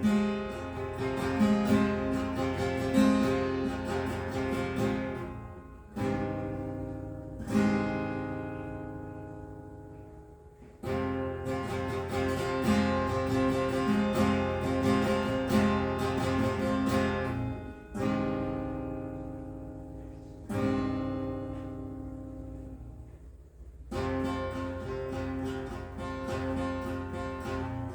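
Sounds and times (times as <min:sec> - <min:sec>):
acoustic guitar strumming and picking: 0:00.0 - 0:27.9.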